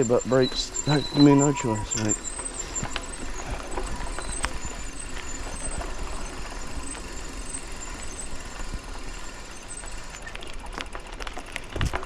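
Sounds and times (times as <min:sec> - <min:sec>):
bike clicking and rattling: 0:00.0 - 0:12.0
bike tyres rumbling on trail: 0:00.0 - 0:12.0.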